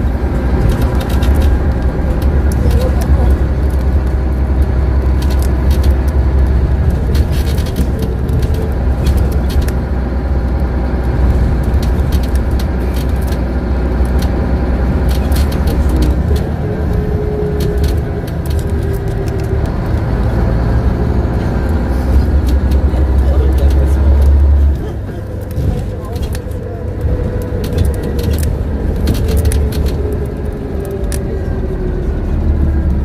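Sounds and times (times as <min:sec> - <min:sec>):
bus engine drone: 0:00.0 - 0:33.0
clicks and rattles: 0:00.3 - 0:10.6, 0:11.3 - 0:14.4, 0:15.0 - 0:20.4, 0:21.6 - 0:31.2.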